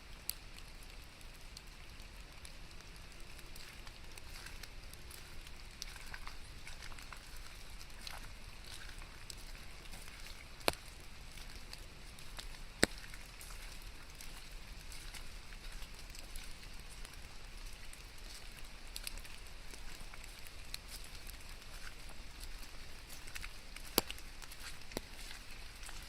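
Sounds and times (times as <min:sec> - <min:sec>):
rain drops ticking: 0:00.0 - 0:26.0.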